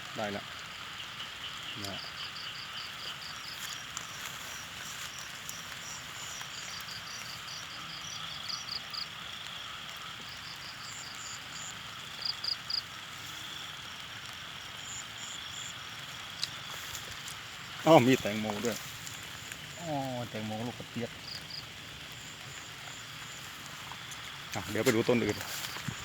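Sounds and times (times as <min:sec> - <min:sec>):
insects chirping: 0:00.0 - 0:26.0
steady hiss: 0:00.0 - 0:26.0.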